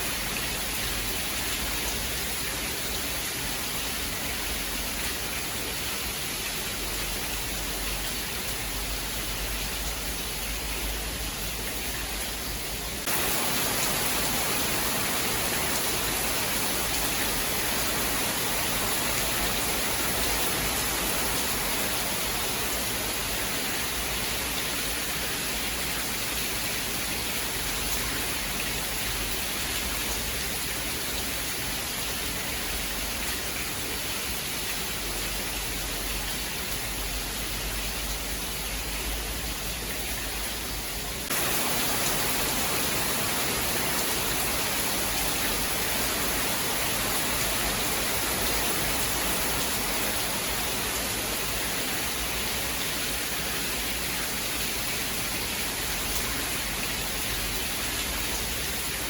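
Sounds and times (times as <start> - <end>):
rain hissing: 0.0 - 30.4, 35.0 - 59.0.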